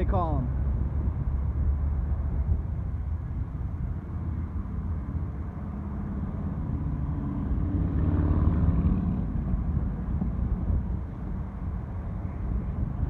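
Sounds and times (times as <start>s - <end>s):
passing vehicle engine rumble: 0.0s - 13.0s.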